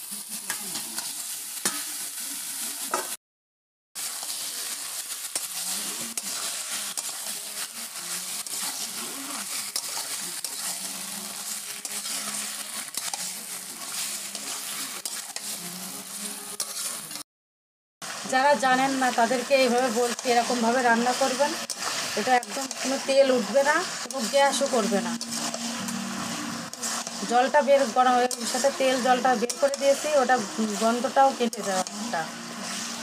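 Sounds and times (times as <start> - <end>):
food sizzling in a pan: 0.0 - 3.2, 4.0 - 17.3, 18.0 - 33.0
metal spatula scraping a pan: 4.0 - 17.2, 18.6 - 33.0.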